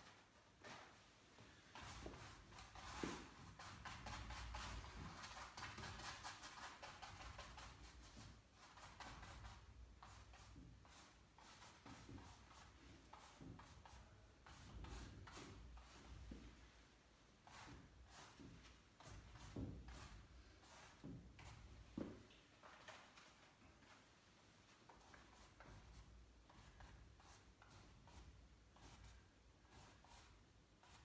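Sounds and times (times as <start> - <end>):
brush strokes on paper: 0.0 - 31.0.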